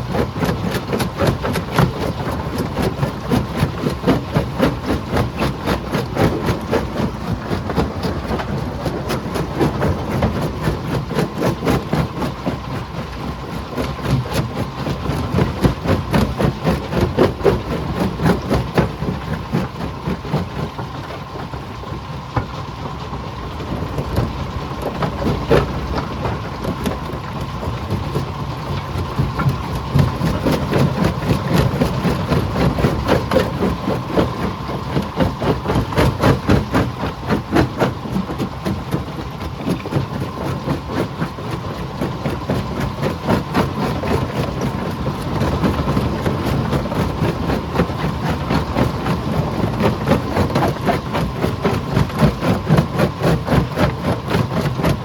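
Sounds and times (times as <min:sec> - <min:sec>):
rock crushing clatter: 0:00.0 - 0:21.6, 0:22.3 - 0:55.0
engine rumble: 0:00.0 - 0:55.0.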